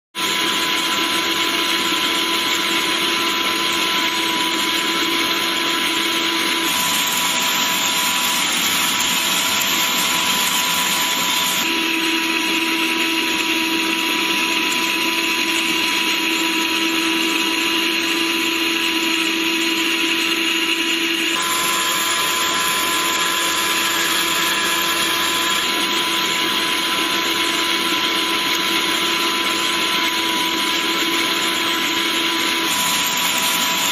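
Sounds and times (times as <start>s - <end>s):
electric meat grinder running: 0.2s - 33.9s.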